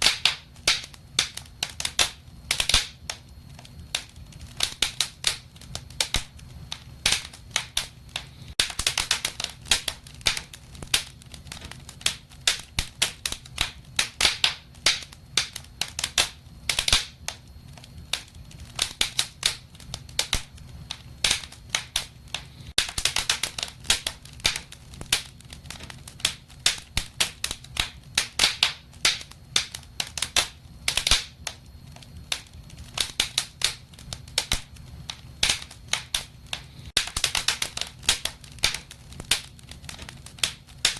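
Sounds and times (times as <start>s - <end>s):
steady low hum: 0.0s - 40.9s
wood fire crackling and popping: 0.0s - 40.9s.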